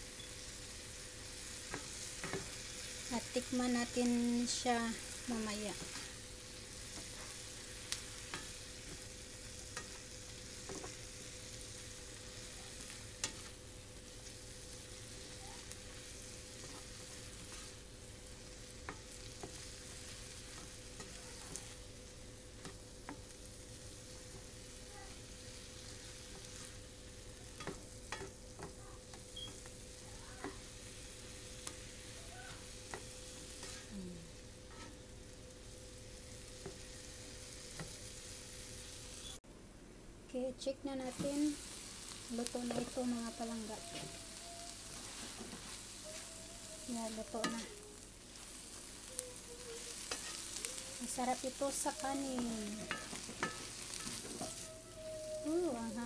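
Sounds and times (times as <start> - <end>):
food sizzling in a frying pan: 0.0 - 39.4, 40.3 - 56.0.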